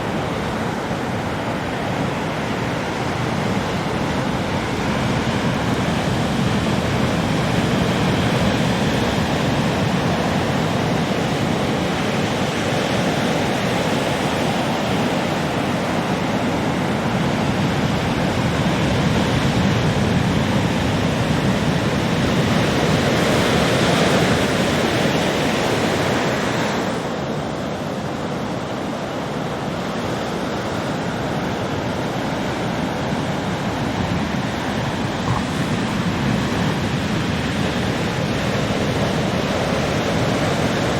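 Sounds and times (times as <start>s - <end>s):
heavy waves breaking: 0.0s - 40.9s.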